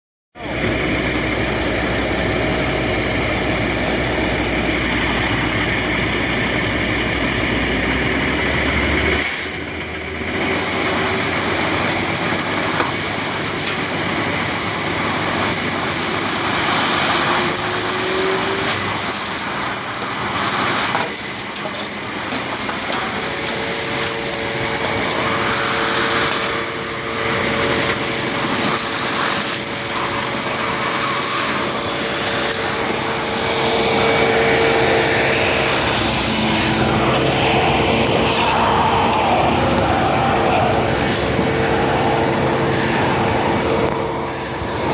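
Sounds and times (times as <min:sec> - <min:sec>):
vacuum truck engine drone: 0:00.4 - 0:44.9.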